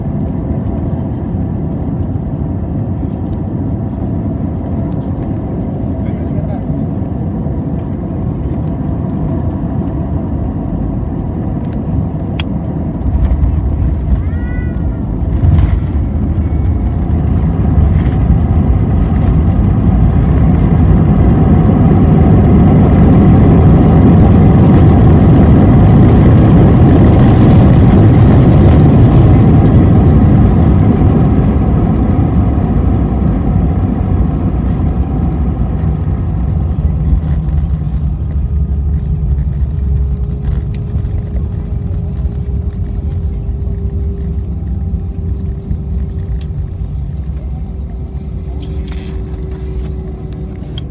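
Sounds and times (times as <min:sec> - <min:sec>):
jet engine roar: 0:00.0 - 0:50.9.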